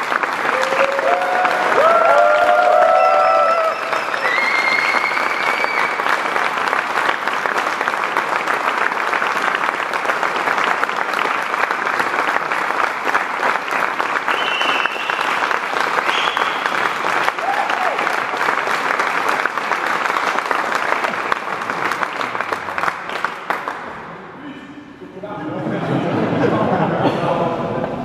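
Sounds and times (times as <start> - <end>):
large audience clapping: 0.0 - 24.4.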